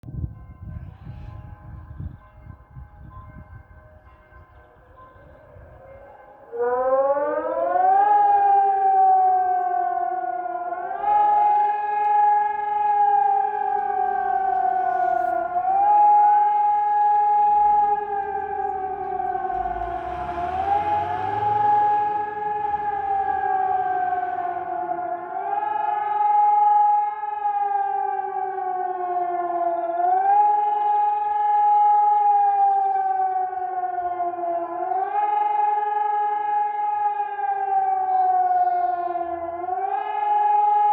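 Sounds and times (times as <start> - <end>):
warning siren rising and falling: 6.5 - 40.9.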